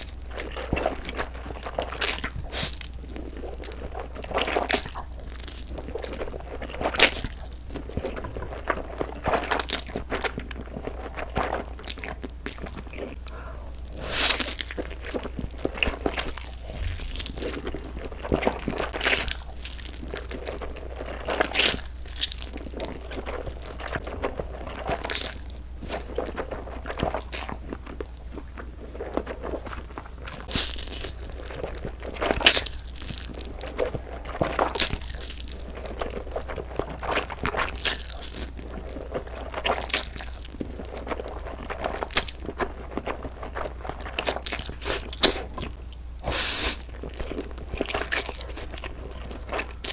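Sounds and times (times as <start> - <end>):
crackle: 0.0 - 49.9
crunchy bites and chewing: 0.0 - 49.9
low steady hum: 0.0 - 49.9.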